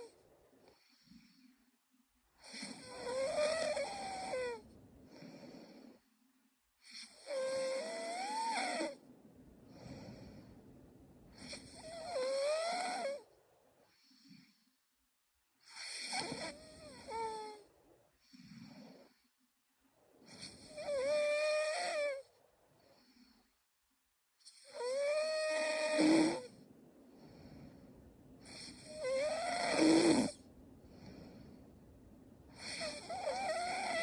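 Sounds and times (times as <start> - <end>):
woman snoring: 0.0 - 1.6, 2.4 - 6.1, 6.8 - 9.0, 9.6 - 10.6, 11.3 - 14.7, 15.6 - 19.3, 20.2 - 23.5, 24.4 - 31.6, 32.5 - 34.0
soft breathing: 0.0 - 7.4, 8.6 - 21.0, 21.6 - 25.0, 26.4 - 29.4, 30.3 - 34.0.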